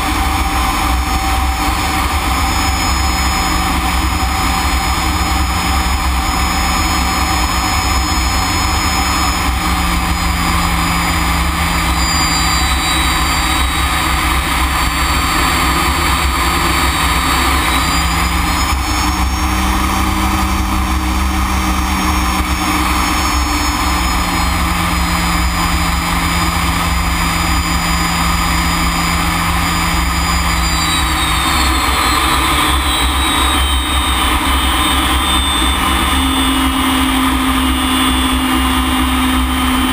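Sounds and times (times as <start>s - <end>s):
high whining tones: 0.0s - 39.9s
jet engine running: 0.0s - 39.9s.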